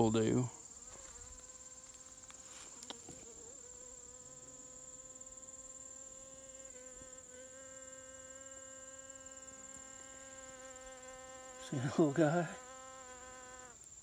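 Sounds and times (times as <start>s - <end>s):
flying insect buzzing: 0.0s - 14.0s
insect chorus drone: 0.0s - 14.0s.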